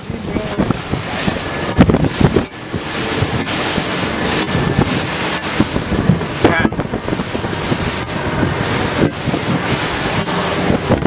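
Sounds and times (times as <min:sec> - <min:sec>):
waves slapping against hull: 0:00.0 - 0:11.0
wind buffeting microphone: 0:00.0 - 0:11.0.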